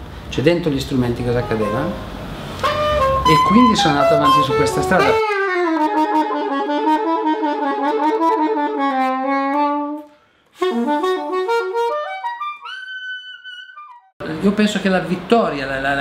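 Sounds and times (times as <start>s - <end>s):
solo saxophone: 1.2s - 14.1s.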